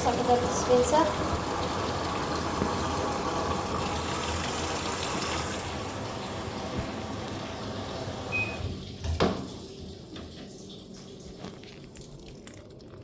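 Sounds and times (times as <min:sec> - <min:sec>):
water running into washing machine: 0:00.0 - 0:13.0.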